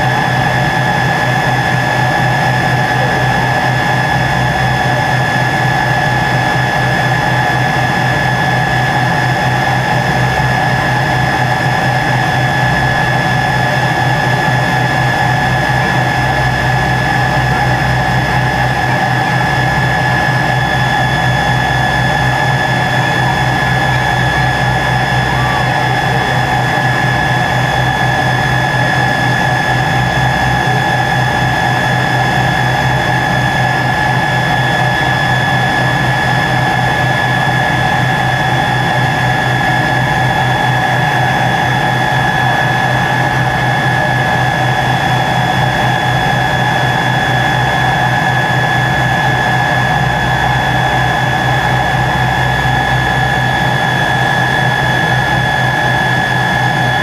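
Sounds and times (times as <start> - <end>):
jet engines whining on the ground: 0.0 - 57.0.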